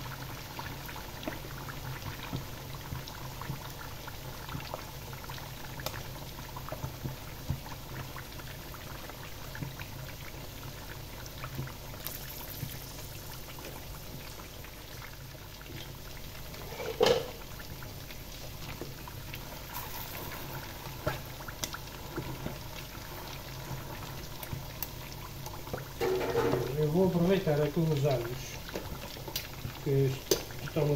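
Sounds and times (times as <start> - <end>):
food deep-frying in oil: 0.0 - 30.9.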